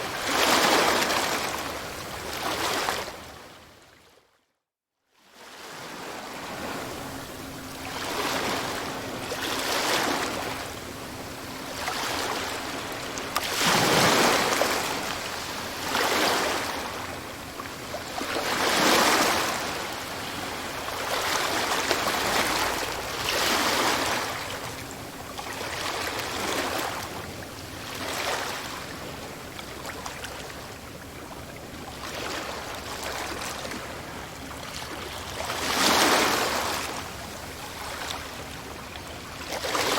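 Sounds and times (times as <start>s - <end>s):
sea waves breaking on shore: 0.0s - 3.8s, 5.3s - 39.9s.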